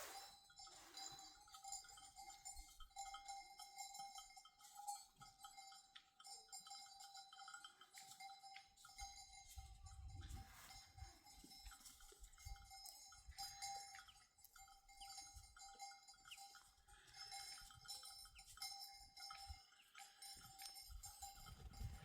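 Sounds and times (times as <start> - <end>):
livestock bells clinking: 0.0 - 22.0.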